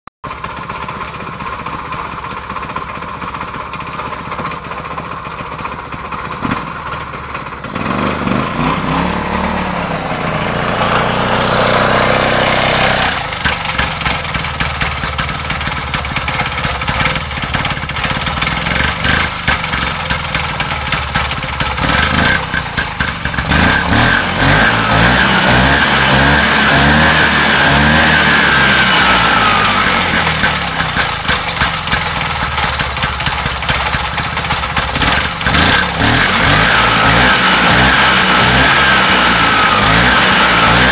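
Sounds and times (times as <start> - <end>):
quad bike engine idling and revving: 0.2 - 40.9.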